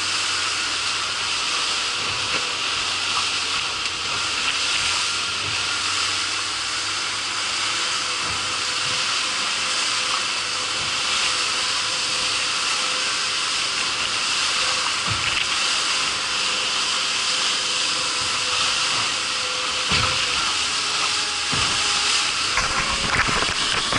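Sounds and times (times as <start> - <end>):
boat wake and spray rushing: 0.0 - 23.9
faint boat engine drone: 0.0 - 23.9.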